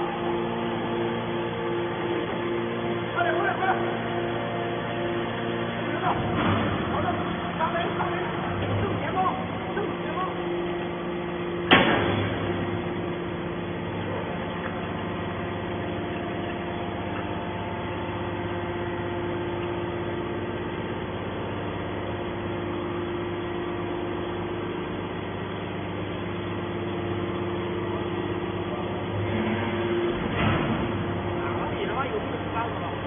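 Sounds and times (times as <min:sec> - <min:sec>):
baler motor and pump humming: 0:00.0 - 0:33.0.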